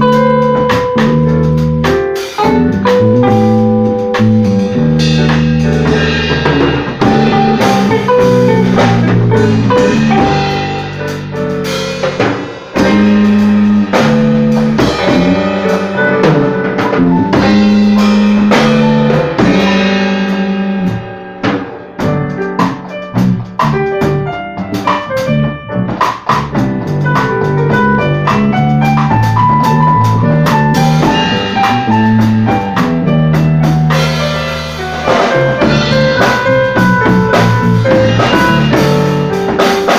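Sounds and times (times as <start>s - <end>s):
band playing drums and guitar: 0.0s - 39.9s.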